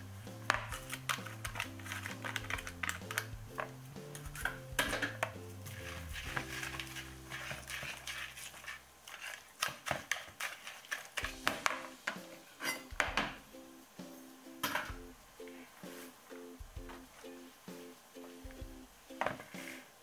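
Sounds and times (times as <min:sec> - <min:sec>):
soft background music: 0:00.0 - 0:08.4, 0:11.2 - 0:20.0.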